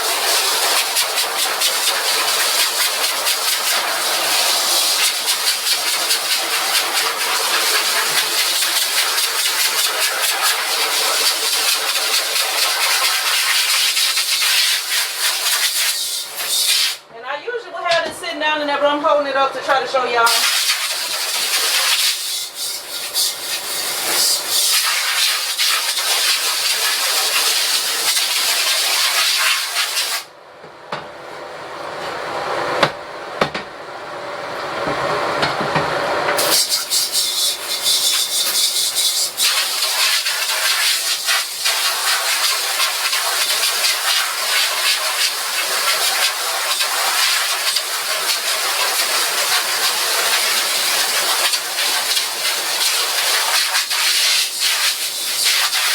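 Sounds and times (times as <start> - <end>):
spray washer jetting water: 0.0 - 17.0, 20.3 - 30.3, 36.4 - 55.9.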